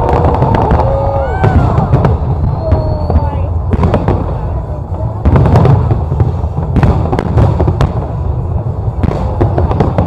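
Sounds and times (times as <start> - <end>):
fireworks bangs and crackles: 0.0 - 10.0
low rumble of echoing explosions: 0.0 - 10.0.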